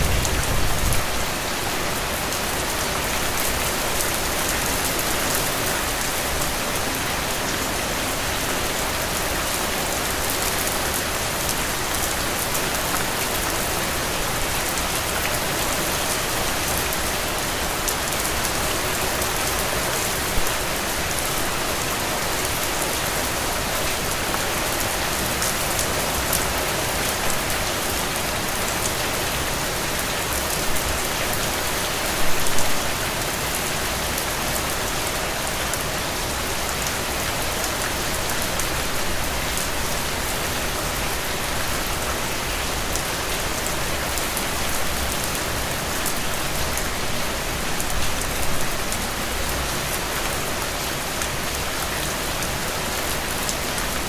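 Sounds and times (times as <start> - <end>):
heavy rain on soil and puddles: 0.0 - 54.0.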